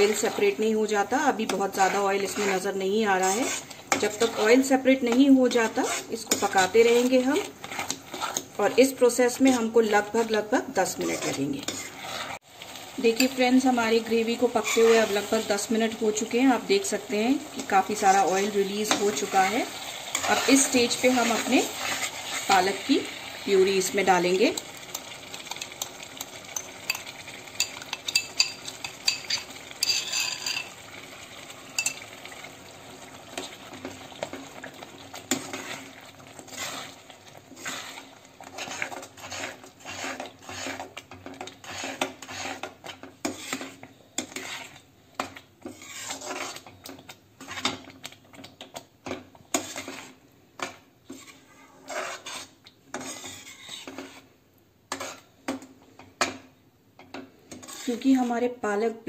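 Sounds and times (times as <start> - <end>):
metal spatula scraping pan: 0.0 - 12.4, 13.0 - 24.6, 26.5 - 30.9, 35.1 - 48.0, 49.1 - 54.3, 54.9 - 55.6, 57.1 - 58.6
faint sizzle: 0.0 - 59.0.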